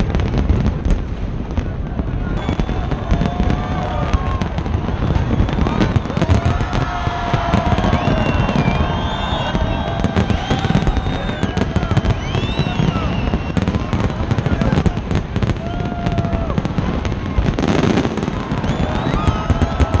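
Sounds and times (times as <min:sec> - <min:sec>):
crowd voices: 0:00.0 - 0:20.0
fireworks bangs and crackles: 0:00.0 - 0:20.0
low rumble of bursting shells: 0:00.0 - 0:20.0.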